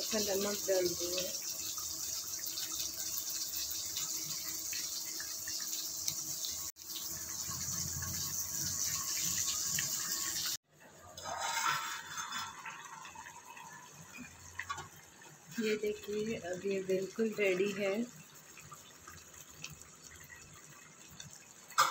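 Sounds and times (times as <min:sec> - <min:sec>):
curry bubbling and hissing: 0:00.0 - 0:10.6, 0:11.2 - 0:21.9.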